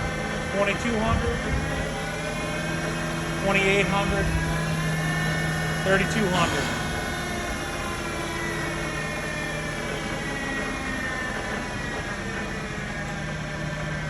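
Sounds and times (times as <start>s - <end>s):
milling machine spindle whine: 0.0s - 14.0s.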